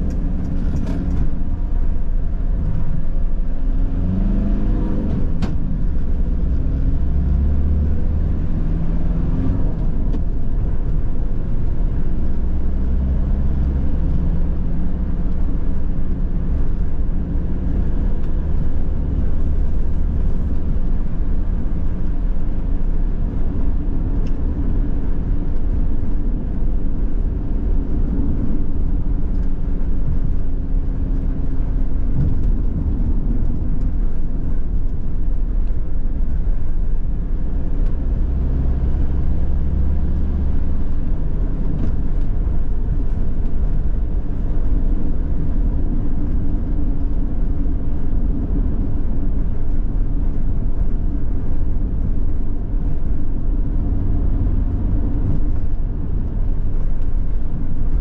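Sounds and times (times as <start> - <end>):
van engine and tyre rumble: 0.0 - 58.0.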